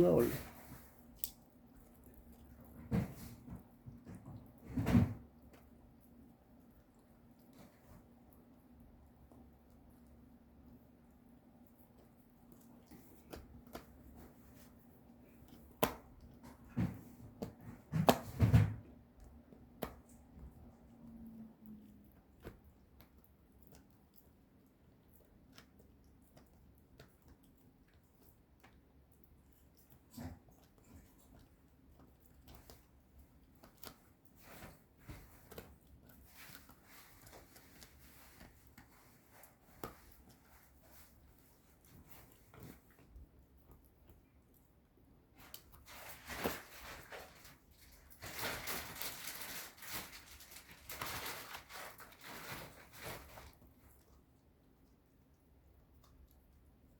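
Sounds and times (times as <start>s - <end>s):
puppy gnawing on a bone chew: 0.5s - 56.9s.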